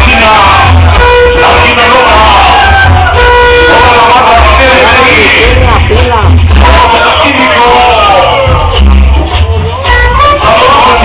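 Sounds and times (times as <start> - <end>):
loud dance music with bass: 0.0 - 11.0.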